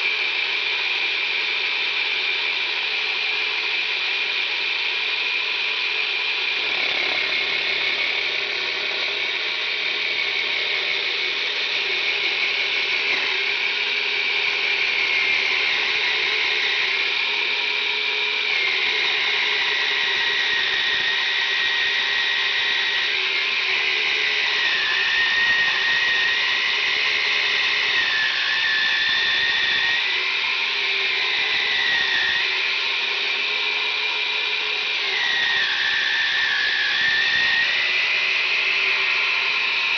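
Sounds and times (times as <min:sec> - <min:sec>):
dessert maker motor whining: 0:00.0 - 0:39.9.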